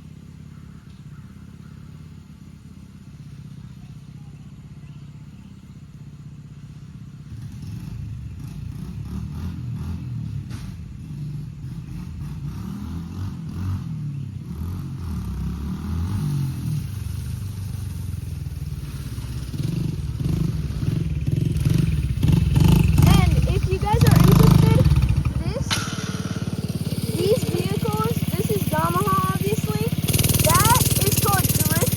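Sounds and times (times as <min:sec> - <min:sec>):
small off-road vehicle engine: 0:00.0 - 0:31.9.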